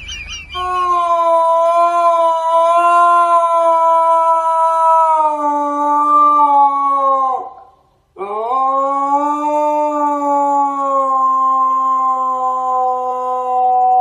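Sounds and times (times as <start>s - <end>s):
dog howling: 0.4s - 14.0s.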